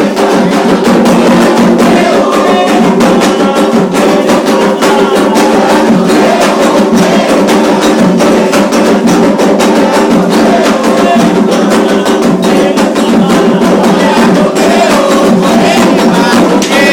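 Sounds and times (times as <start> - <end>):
hand drums playing fast rhythm: 0.0 - 16.9
voices singing: 0.0 - 16.9.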